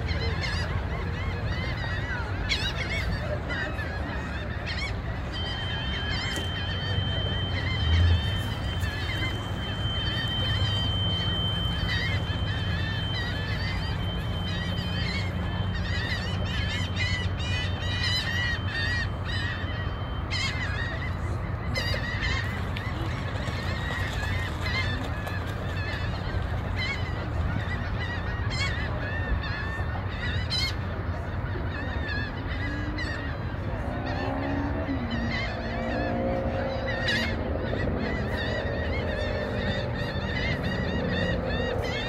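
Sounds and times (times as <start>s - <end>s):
waterbirds calling: 0.0s - 42.0s.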